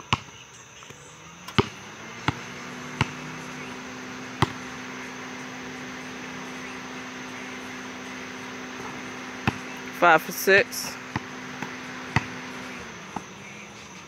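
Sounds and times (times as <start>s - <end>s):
basketball bouncing on pavement: 0.0s - 14.0s.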